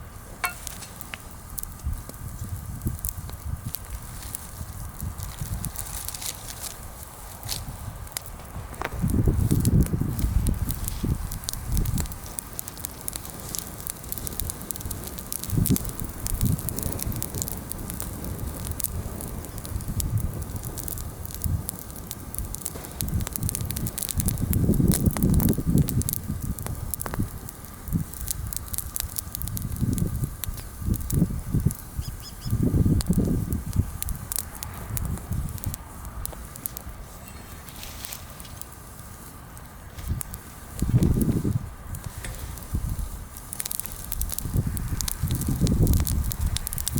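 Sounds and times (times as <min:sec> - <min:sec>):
bonfire crackling and popping: 0:00.0 - 0:46.9.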